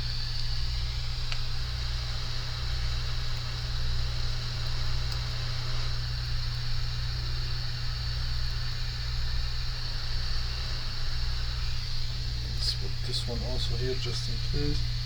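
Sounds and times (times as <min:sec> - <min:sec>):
fan hiss: 0:00.0 - 0:15.0
low electrical hum: 0:00.0 - 0:15.0.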